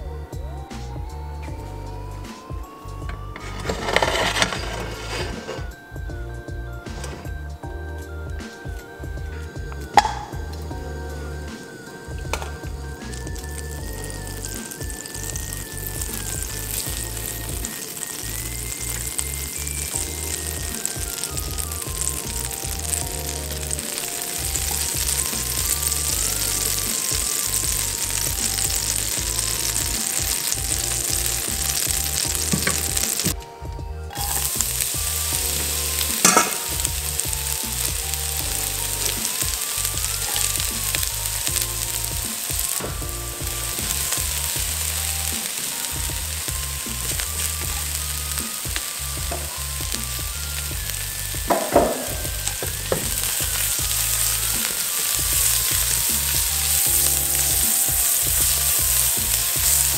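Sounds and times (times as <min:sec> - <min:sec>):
soft background melody: 0:00.0 - 0:59.9
hot oil sizzling in a wok: 0:02.8 - 0:33.4, 0:34.1 - 0:59.9.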